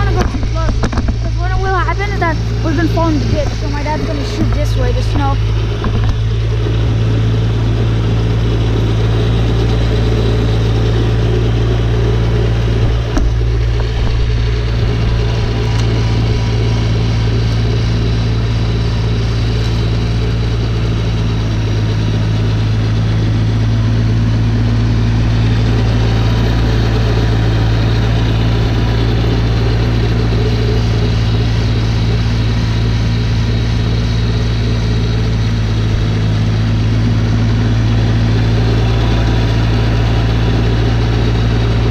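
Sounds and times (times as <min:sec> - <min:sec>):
snowblower engine running: 0:00.0 - 0:41.9.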